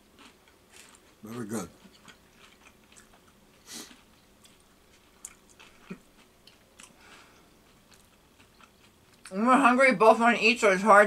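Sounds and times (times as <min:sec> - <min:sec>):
people chewing food: 0:00.0 - 0:10.2.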